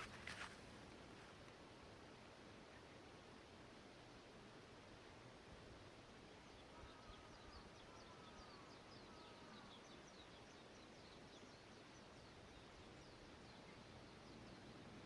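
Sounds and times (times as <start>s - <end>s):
quiet background hiss: 0.0s - 15.0s.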